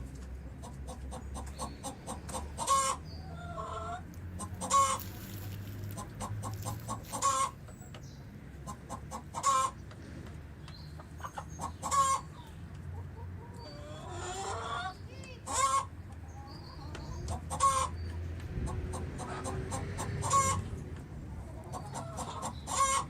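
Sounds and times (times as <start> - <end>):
chickens clucking: 0.1 - 23.0.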